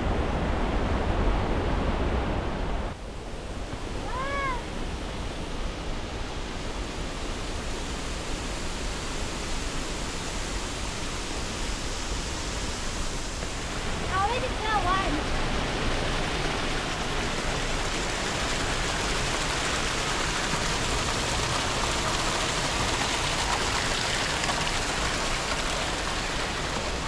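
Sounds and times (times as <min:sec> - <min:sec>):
mountain stream rushing: 0:00.0 - 0:27.0.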